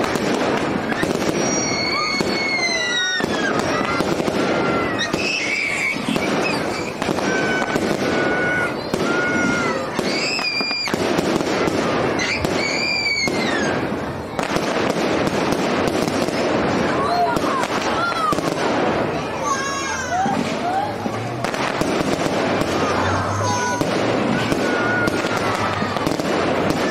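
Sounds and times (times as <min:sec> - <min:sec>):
fireworks bangs and crackling: 0:00.0 - 0:26.9
fireworks whistles: 0:00.0 - 0:26.9.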